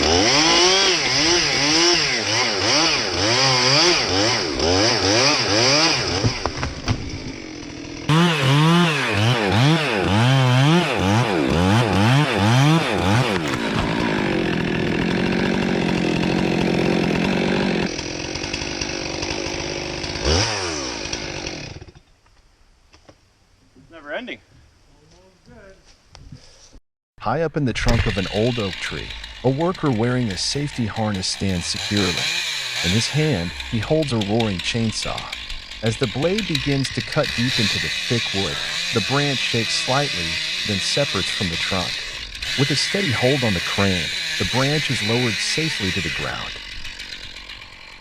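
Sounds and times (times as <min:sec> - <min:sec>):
chainsaw revving and cutting wood: 0:00.0 - 0:22.0, 0:27.8 - 0:48.0.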